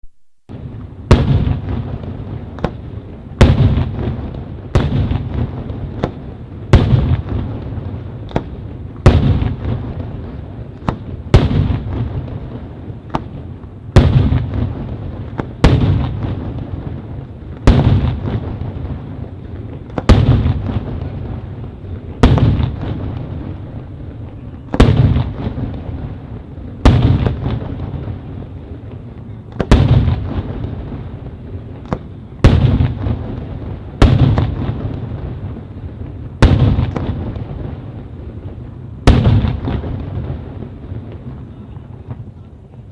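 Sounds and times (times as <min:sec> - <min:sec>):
firework salute bangs: 0:00.5 - 0:42.9
rolling echo: 0:00.5 - 0:42.9.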